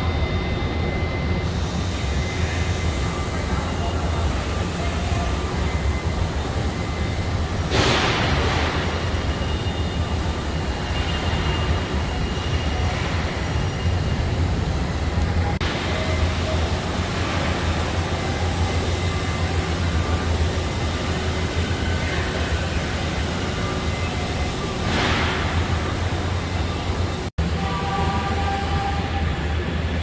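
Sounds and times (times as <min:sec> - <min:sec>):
faint machine whines: 0:00.0 - 0:30.0
low factory rumble: 0:00.0 - 0:30.0.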